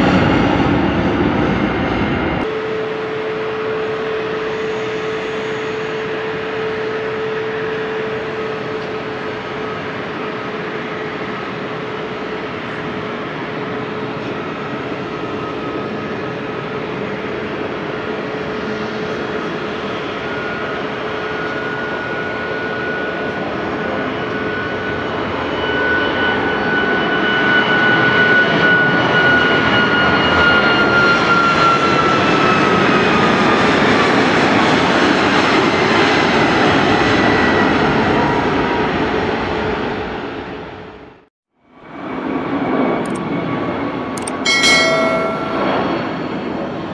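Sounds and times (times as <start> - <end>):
jet engines roaring with whine: 0.0 - 46.9.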